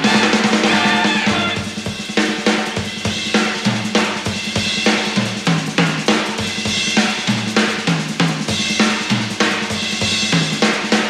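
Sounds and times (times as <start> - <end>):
jazz drum solo: 0.0 - 11.0
ride and crash cymbals: 0.0 - 11.0.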